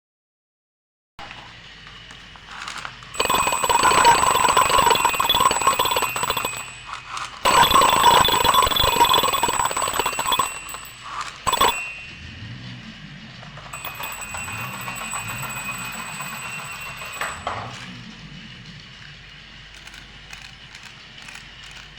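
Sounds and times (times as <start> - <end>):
toy motor and gears whirring: 1.9 - 21.9.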